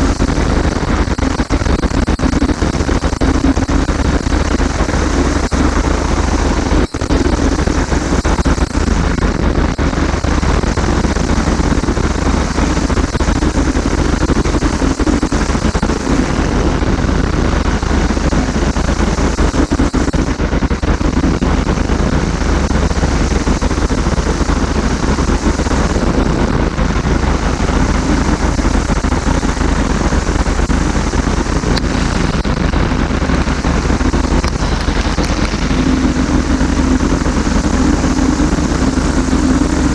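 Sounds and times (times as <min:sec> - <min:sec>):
microlight engine drone: 0:00.0 - 0:39.9
rushing noise: 0:00.0 - 0:39.9.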